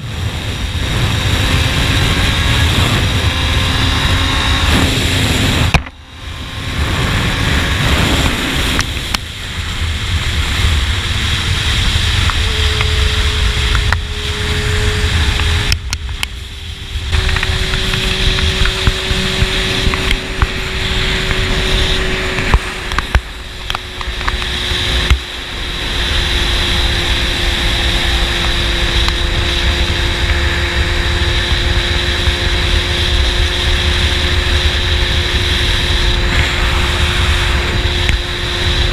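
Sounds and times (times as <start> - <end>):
motorcycle engine cruising: 0.0 - 38.9
wind rush on microphone: 0.0 - 38.9.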